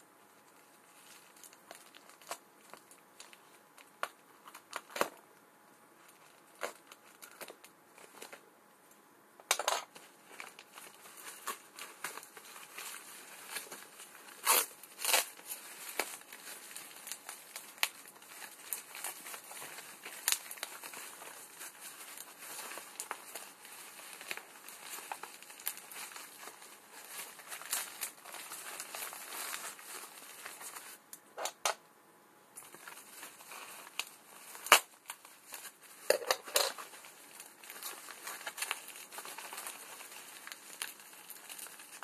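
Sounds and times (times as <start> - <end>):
plastic mailer and bubble wrap crinkling: 0.2 - 8.5, 9.4 - 31.8, 32.6 - 42.0.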